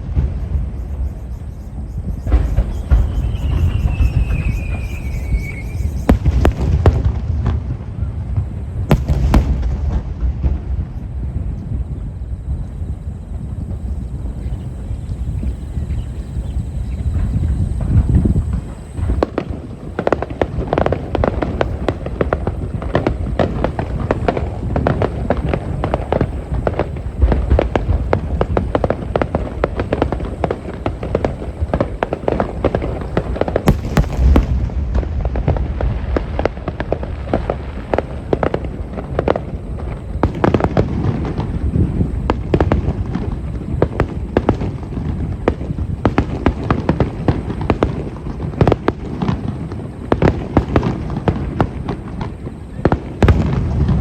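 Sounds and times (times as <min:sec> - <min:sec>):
firework shell bursts and crackles: 0:00.0 - 0:12.4, 0:17.0 - 0:54.0
heavy low firework booms: 0:00.0 - 0:54.0.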